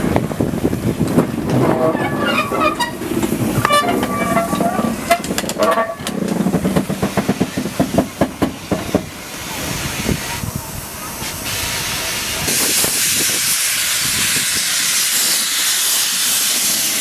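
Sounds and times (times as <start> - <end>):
steam locomotive exhaust beats: 0.0 - 17.0.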